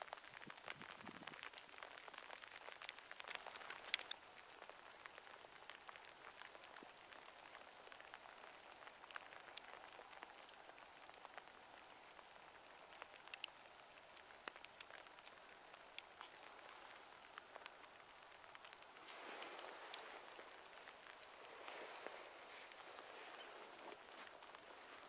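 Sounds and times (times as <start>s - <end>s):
light rain ticking: 0.0s - 25.0s.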